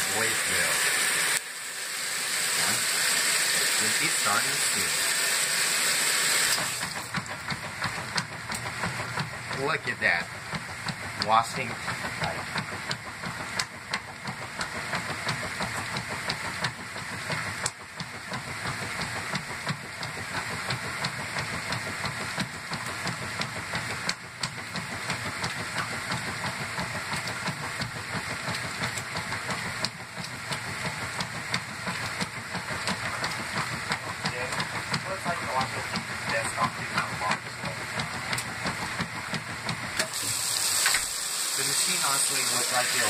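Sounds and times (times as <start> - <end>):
washing machine churning water: 0.0 - 43.0.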